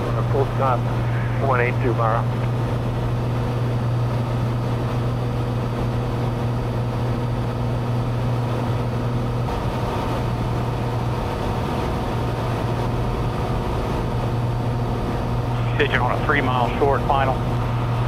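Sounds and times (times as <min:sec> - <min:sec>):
airplane engine drone: 0:00.0 - 0:18.0.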